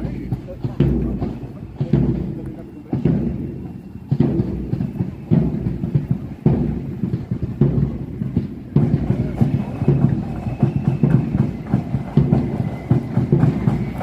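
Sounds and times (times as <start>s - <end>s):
bass drum beating: 0.0s - 14.0s.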